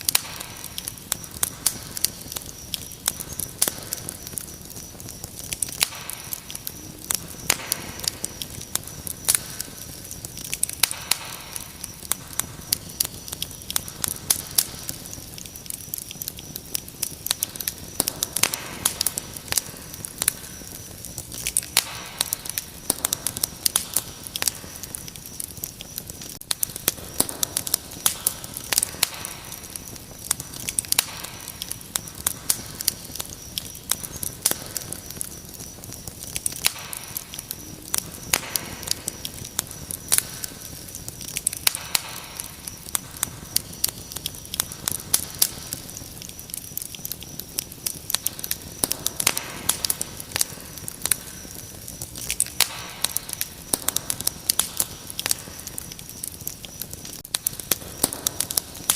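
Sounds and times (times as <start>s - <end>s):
cricket trill: 0.0s - 58.9s
wood fire crackling: 0.0s - 58.9s.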